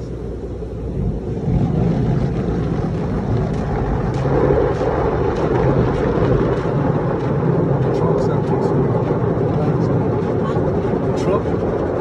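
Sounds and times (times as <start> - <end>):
water spraying on car: 0.5 - 12.0.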